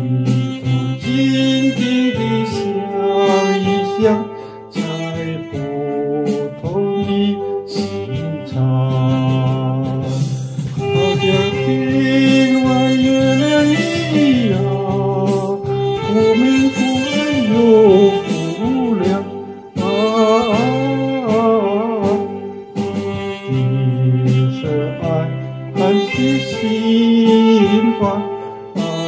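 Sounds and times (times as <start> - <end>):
instrumental band music: 0.0 - 29.0.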